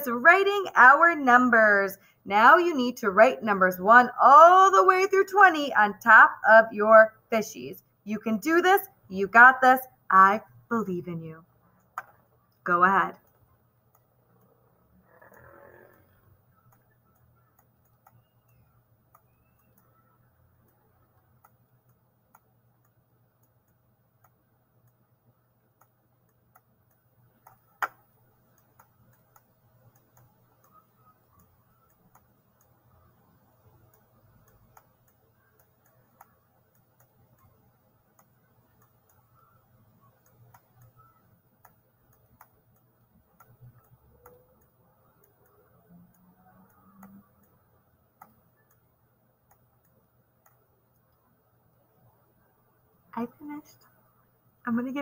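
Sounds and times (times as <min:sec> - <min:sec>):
faint ticking: 0:00.0 - 0:55.0.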